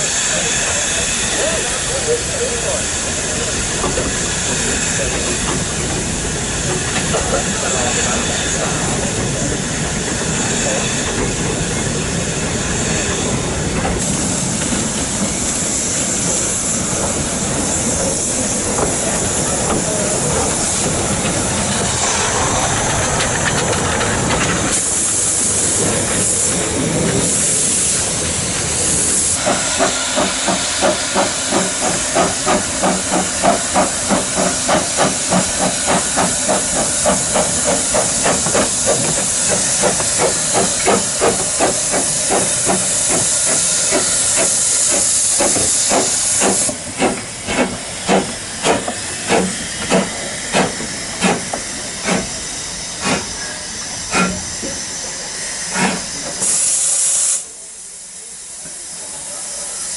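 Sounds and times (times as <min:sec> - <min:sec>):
steam exhaust chuffs: 0:00.0 - 0:59.9
steam locomotive hissing: 0:00.0 - 0:59.9.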